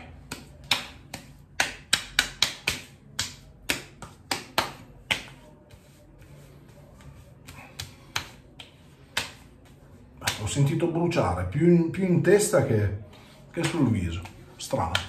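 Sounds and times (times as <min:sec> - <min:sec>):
palms slapping face: 0:00.0 - 0:15.0.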